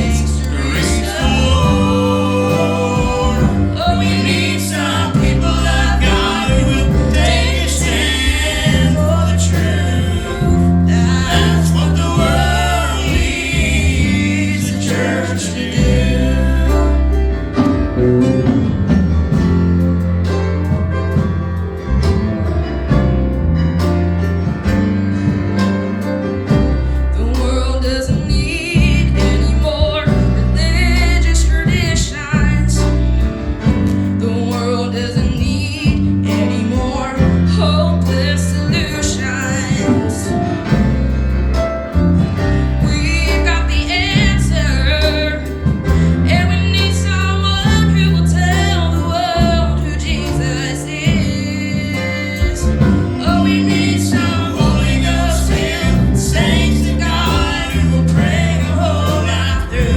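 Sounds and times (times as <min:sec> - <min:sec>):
gospel singing with vibrato: 0:00.0 - 0:59.9
sustained bass notes: 0:00.0 - 0:59.9.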